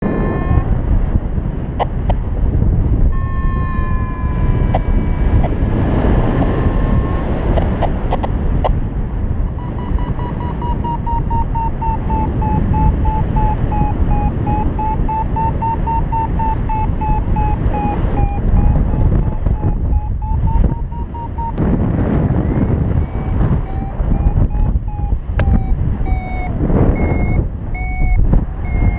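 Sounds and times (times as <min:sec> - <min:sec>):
variometer electronic beeping: 0:00.0 - 0:00.7, 0:03.0 - 0:08.8, 0:09.5 - 0:28.9
wind buffeting microphone: 0:00.0 - 0:28.9.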